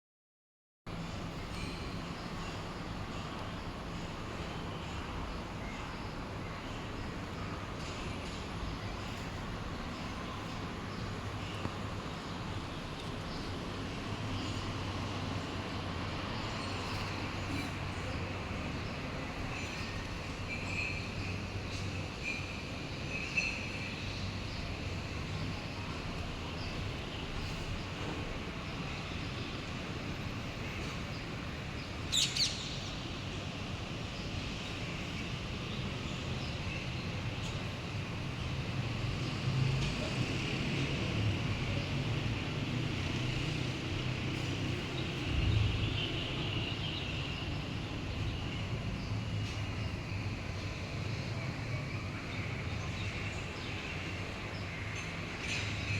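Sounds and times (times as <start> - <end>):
distant traffic hum: 0.9 - 55.9.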